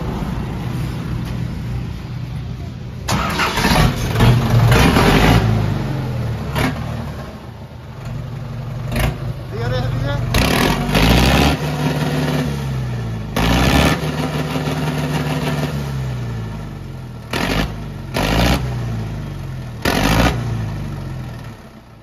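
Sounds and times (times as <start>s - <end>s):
tractor engine revving: 2.9s - 21.8s.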